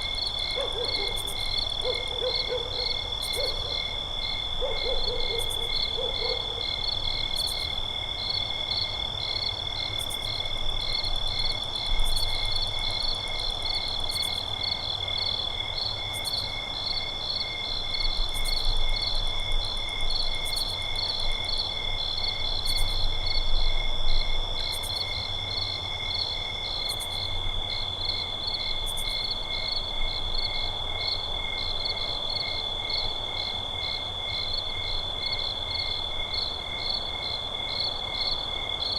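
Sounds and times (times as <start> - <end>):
insects chirping and trilling: 0.0 - 38.9.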